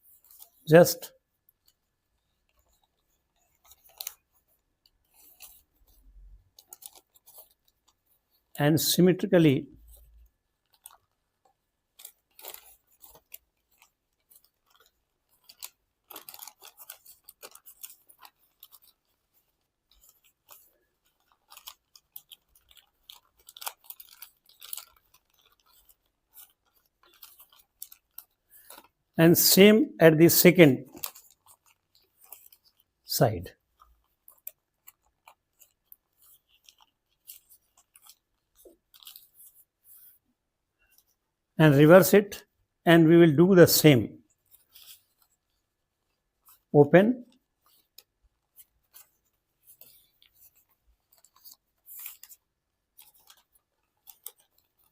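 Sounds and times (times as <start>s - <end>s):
paper crinkling and rustling: 0.0s - 8.6s, 9.7s - 29.6s, 30.3s - 41.5s, 44.2s - 54.9s.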